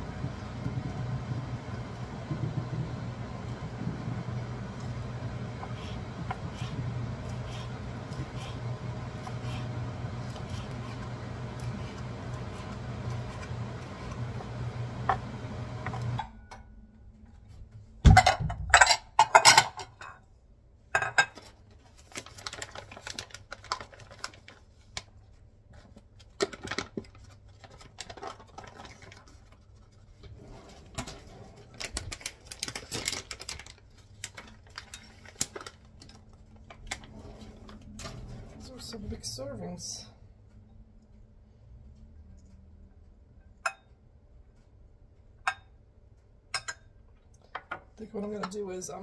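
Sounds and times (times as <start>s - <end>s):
appliance hum: 0.0s - 49.0s.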